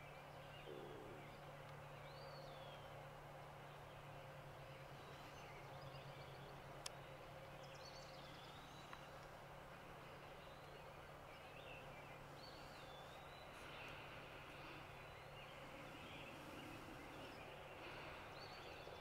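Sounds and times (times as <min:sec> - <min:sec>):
distant songbirds calling: 0:00.0 - 0:19.0
low steady hum: 0:00.0 - 0:19.0.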